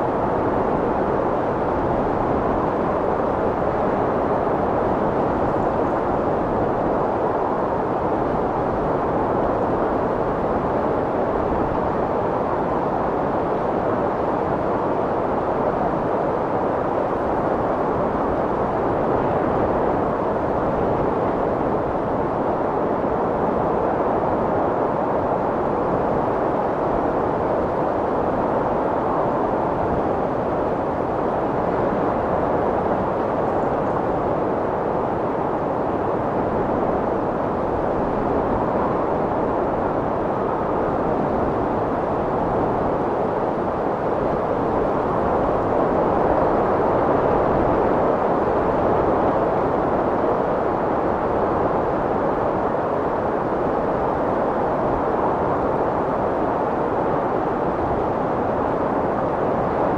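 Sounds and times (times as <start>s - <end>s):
strong wind blowing: 0.0s - 59.9s.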